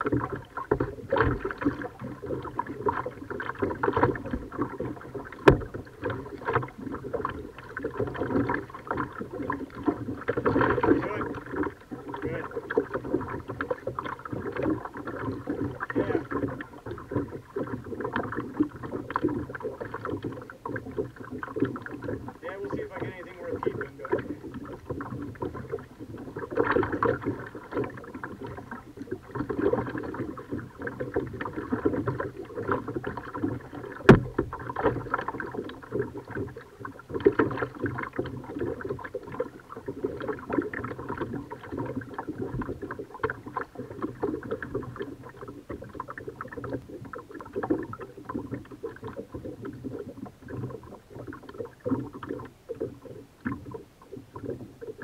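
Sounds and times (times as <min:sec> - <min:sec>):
paddle blades splashing: 0:00.0 - 0:55.0
water trickling and lapping: 0:00.0 - 0:55.0.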